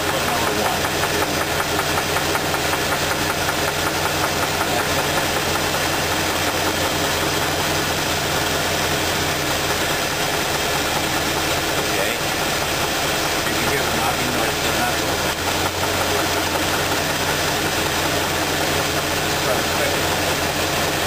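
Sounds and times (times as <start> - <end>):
engine idling with rhythmic knock: 0.0 - 21.0.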